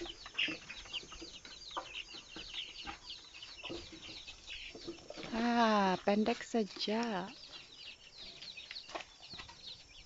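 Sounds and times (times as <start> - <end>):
chickens clucking and peeping: 0.0 - 10.0.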